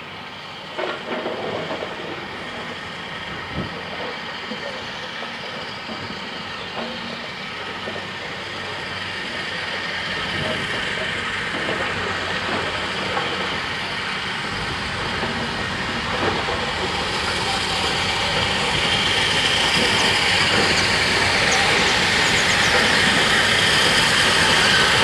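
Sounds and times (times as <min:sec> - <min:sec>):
steam train running: 0:00.0 - 0:25.0.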